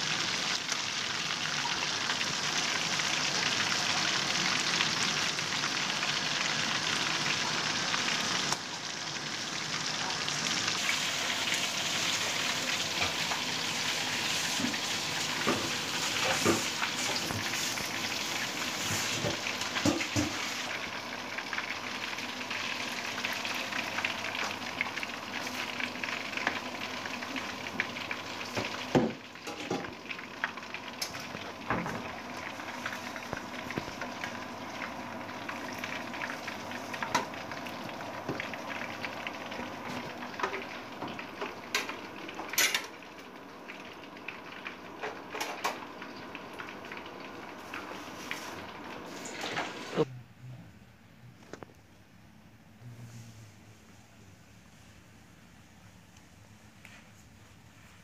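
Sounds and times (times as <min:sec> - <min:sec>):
fish sizzling in a wok: 0:00.0 - 0:50.1.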